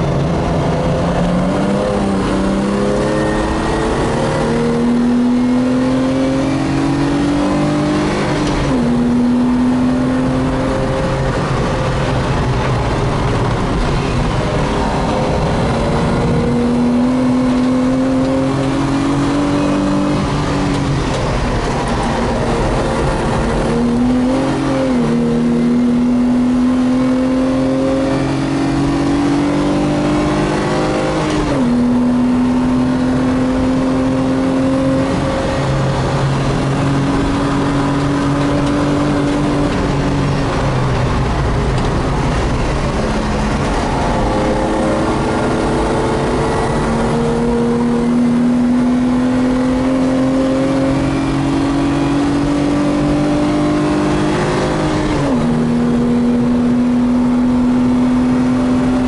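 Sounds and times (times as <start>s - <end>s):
car engine accelerating: 0.0s - 59.0s
wind and tyre noise: 0.0s - 59.0s.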